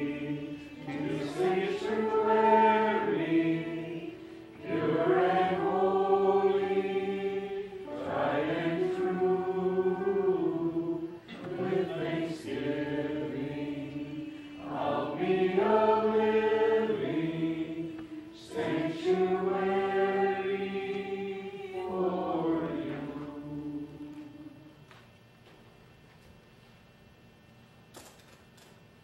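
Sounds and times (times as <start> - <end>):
slow church music chords: 0.0 - 25.1.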